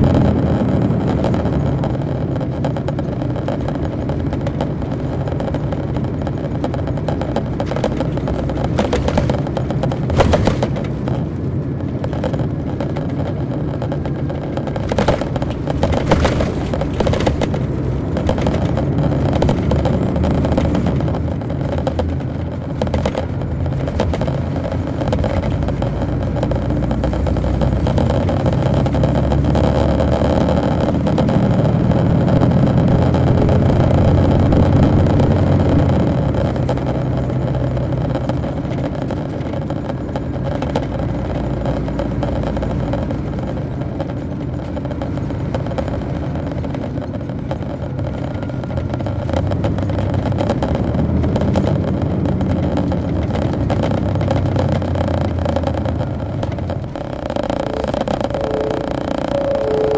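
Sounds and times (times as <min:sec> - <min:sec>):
bus body rattles and knocks: 0:00.0 - 0:58.2
bus diesel engine drone: 0:00.0 - 0:59.9.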